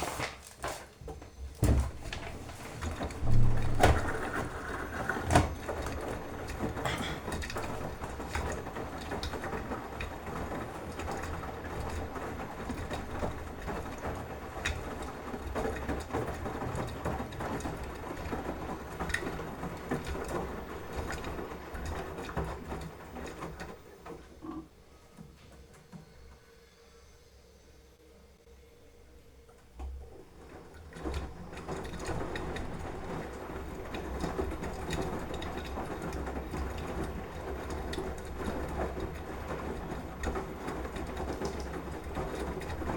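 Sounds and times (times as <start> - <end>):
washing machine running: 0.0 - 27.4, 28.1 - 42.9.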